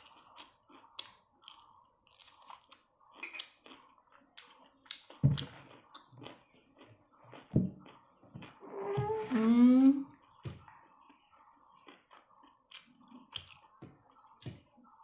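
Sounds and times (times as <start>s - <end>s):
person chewing and crunching food: 0.0s - 8.7s, 10.1s - 15.0s.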